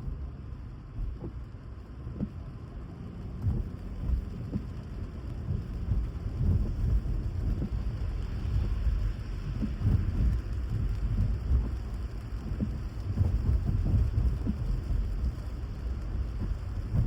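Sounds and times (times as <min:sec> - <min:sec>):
rain: 0:00.0 - 0:17.0
tyres and road noise: 0:00.0 - 0:17.0
soft low thumps: 0:00.9 - 0:02.6, 0:03.2 - 0:17.0.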